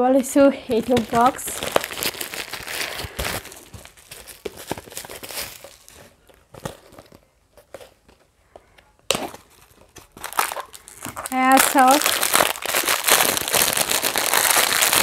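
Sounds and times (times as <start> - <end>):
plastic wrapping crinkling: 0.4 - 8.2, 9.1 - 15.0.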